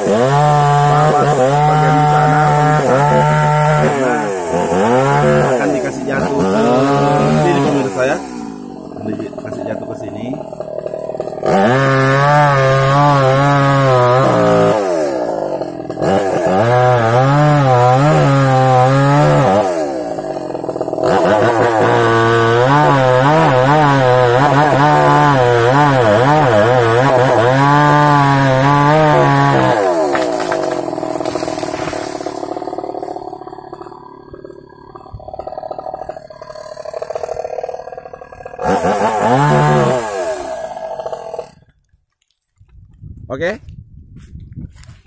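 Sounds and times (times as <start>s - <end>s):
chainsaw cutting wood: 0.0s - 42.3s.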